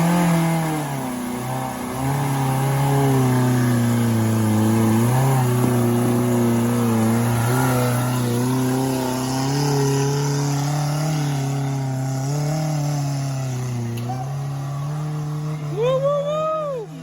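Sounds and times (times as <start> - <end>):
vehicle engine running hard: 0.0 - 17.0.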